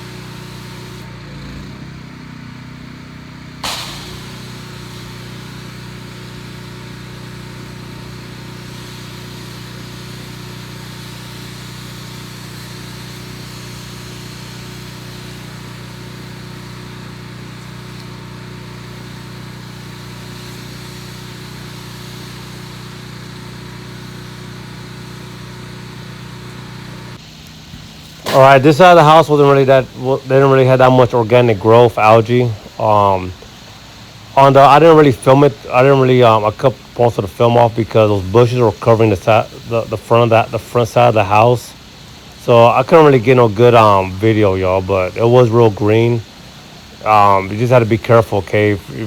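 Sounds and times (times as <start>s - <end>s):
steady hiss of spray: 0.0s - 1.2s, 3.6s - 49.0s
pressure washer engine running: 0.0s - 49.0s.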